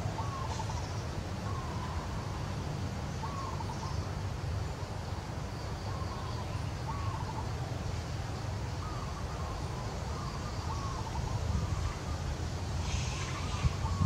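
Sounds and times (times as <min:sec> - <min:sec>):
bird calling: 0:00.0 - 0:04.2, 0:05.8 - 0:07.7, 0:08.7 - 0:14.0.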